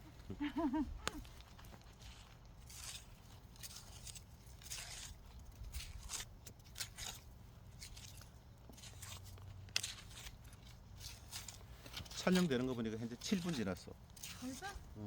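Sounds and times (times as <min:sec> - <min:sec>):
hand hoe scraping dry earth: 0:01.0 - 0:15.0.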